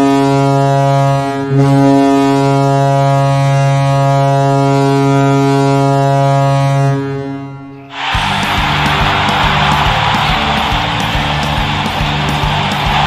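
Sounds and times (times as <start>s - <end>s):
arena goal horn blast: 0.0s - 13.0s.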